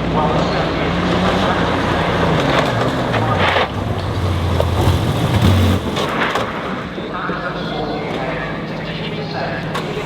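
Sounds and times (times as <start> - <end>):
rally car engine passing: 0.0 - 10.0.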